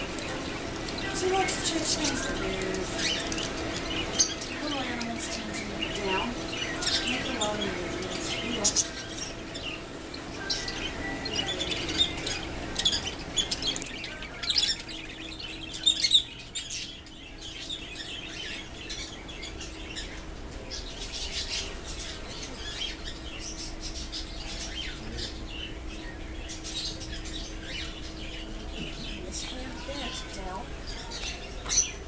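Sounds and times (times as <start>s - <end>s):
caged birds chirping: 0.0s - 32.0s
faint steady hum: 0.0s - 32.0s.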